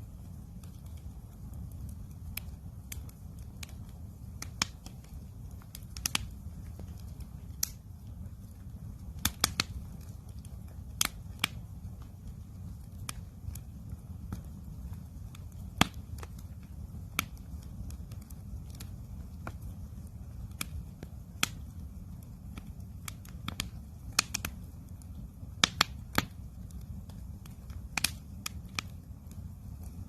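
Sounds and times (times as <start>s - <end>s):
campfire wood crackling: 0.0s - 30.0s
low rush of burning fire: 0.0s - 30.0s.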